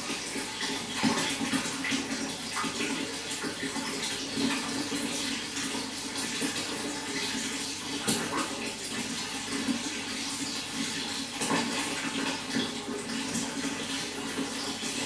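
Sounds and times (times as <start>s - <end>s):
running water splashing: 0.0s - 15.0s.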